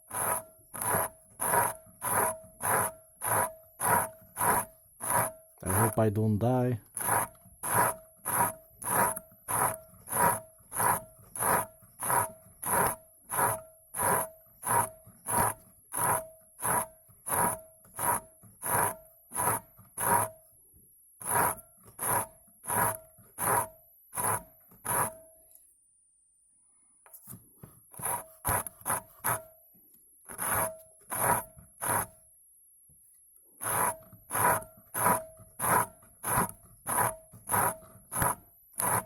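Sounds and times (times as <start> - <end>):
hand tool scraping glass: 0.1 - 6.0, 6.9 - 20.3, 21.2 - 25.2, 27.9 - 29.5, 30.3 - 32.1, 33.6 - 39.0.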